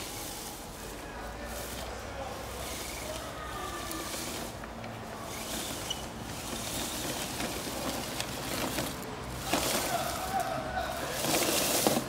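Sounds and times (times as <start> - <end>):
toy truck driving over dry leaves: 0.0 - 12.0.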